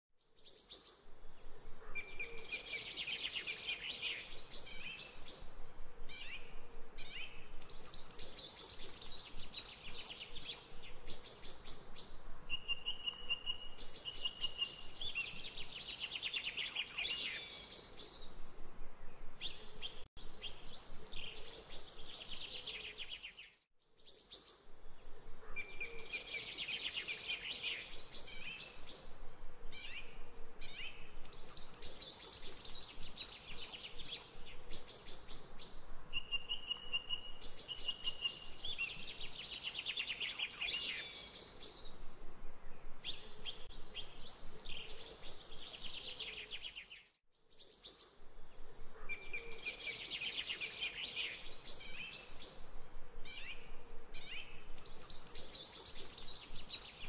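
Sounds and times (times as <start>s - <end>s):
small birds chirping and trilling: 0.3s - 18.4s, 19.2s - 42.1s, 42.8s - 57.0s.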